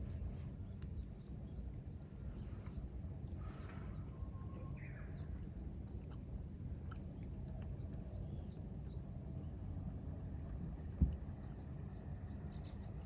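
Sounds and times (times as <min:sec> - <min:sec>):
low background rumble: 0:00.0 - 0:13.0
small birds chirping: 0:00.0 - 0:13.0.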